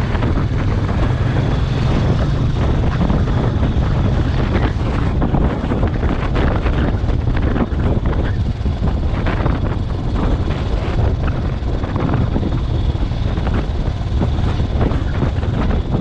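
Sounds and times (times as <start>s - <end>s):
motorcycle engine rumble: 0.0s - 16.0s
wind buffeting microphone: 0.0s - 16.0s.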